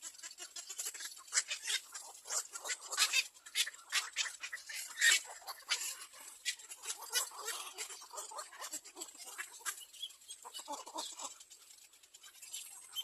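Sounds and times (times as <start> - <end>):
birds clucking and clicking: 0.0 - 13.0.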